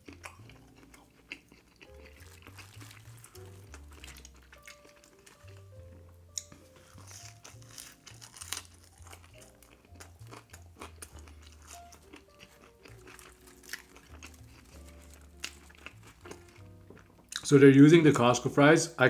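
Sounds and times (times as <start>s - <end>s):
crunching and chewing food: 0.0s - 18.4s
quiet background music with bass: 0.0s - 19.0s.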